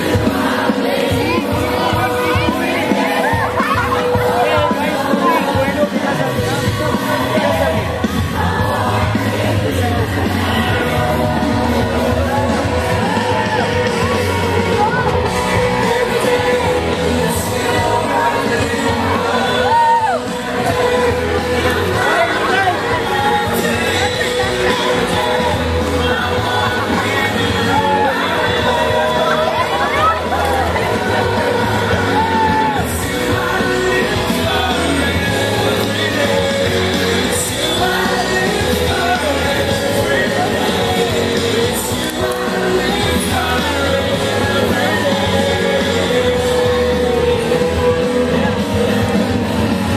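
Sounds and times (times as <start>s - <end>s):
crowd shouting: 0.0s - 49.9s
loud music with singing: 0.0s - 49.9s
steady bass line: 0.0s - 49.9s.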